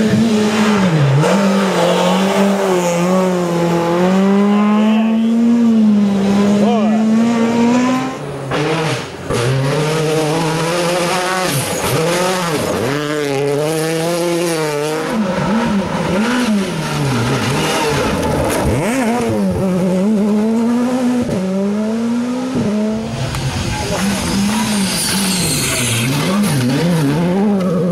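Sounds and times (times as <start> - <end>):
rally car engines revving: 0.0 - 27.9.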